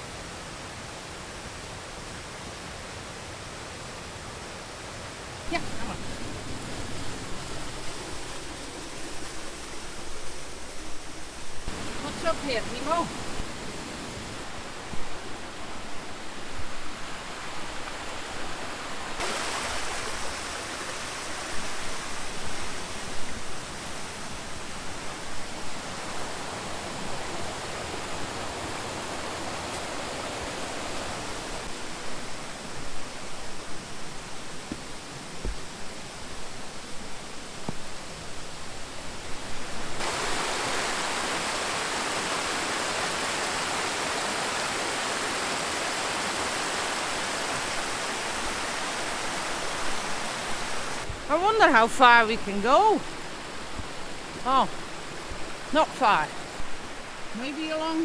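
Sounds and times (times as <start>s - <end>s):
stream and waterfall rushing: 0.0s - 58.0s.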